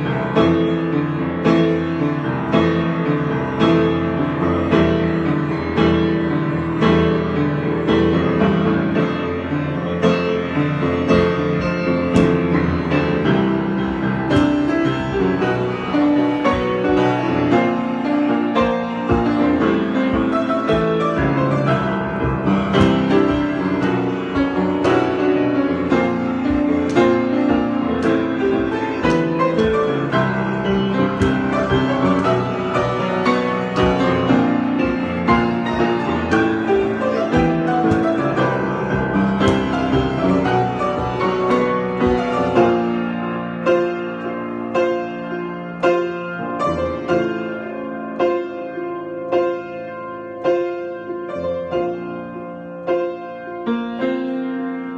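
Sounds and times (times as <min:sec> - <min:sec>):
solo piano playing: 0:00.0 - 0:54.9.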